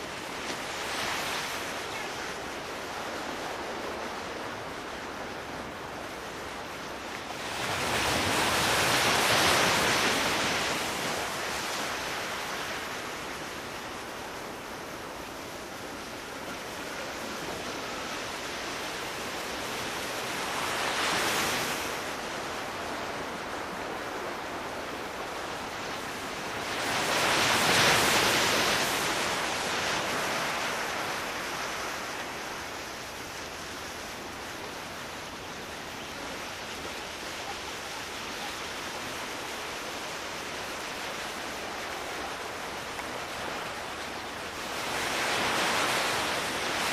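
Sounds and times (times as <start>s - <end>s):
ocean waves washing in: 0.0s - 46.9s.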